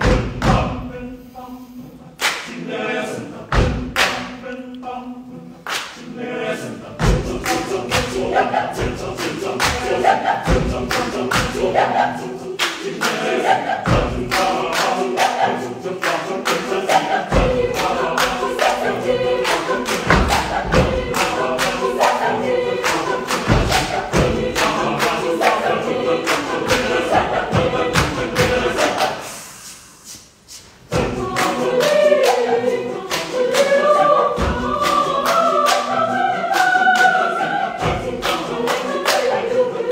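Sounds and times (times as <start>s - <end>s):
mixed choir singing a cappella: 0.0s - 39.9s.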